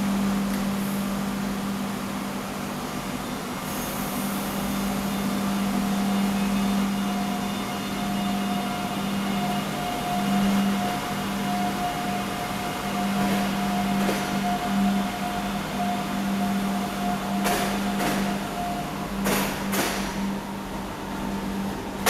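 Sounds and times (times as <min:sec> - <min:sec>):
electric train humming: 0:00.0 - 0:22.0
high train whine: 0:00.0 - 0:22.0.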